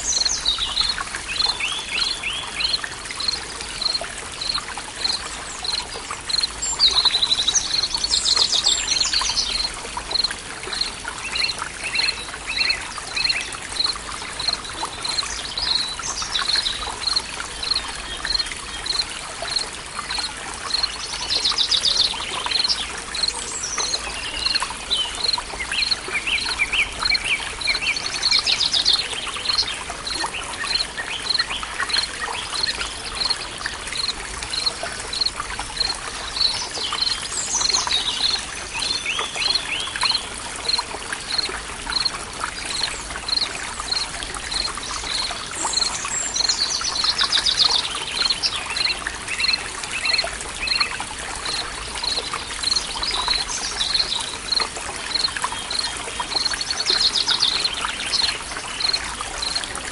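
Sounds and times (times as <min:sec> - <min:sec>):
birds singing trills and chirps: 0:00.0 - 0:59.6
stream trickling: 0:00.0 - 0:59.9.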